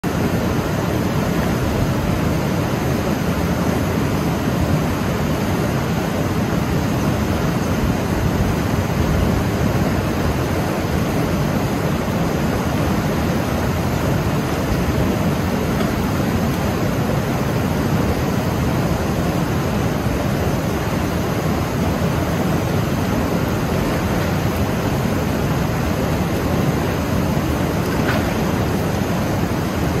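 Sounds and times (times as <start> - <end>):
river rushing over boulders: 0.0 - 30.0.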